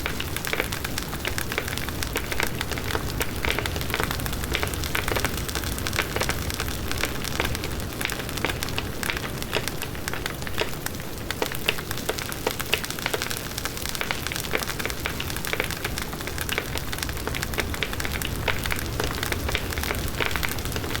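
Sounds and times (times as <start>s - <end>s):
burning wood crackling and popping: 0.0s - 21.0s.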